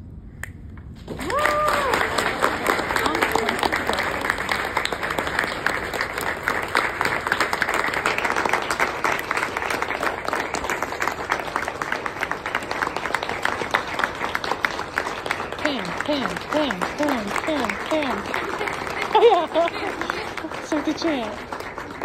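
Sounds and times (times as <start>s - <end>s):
audience applauding: 1.0s - 22.0s.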